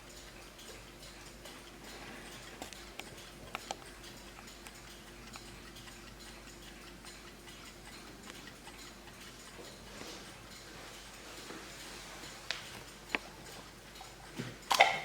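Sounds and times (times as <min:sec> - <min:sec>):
wall clock ticking softly: 0:00.0 - 0:15.0.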